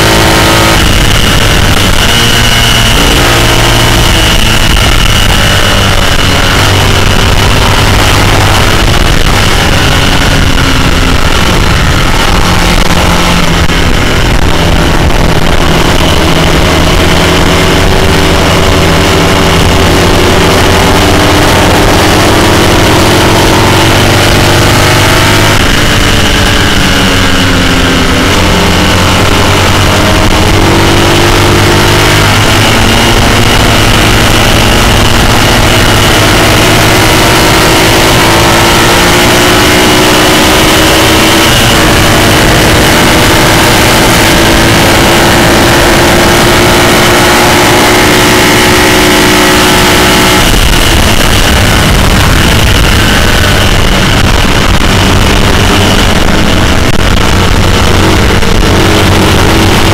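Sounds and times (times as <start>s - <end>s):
racing engine at full throttle: 0.0s - 59.9s
wind rushing on microphone: 0.0s - 59.9s.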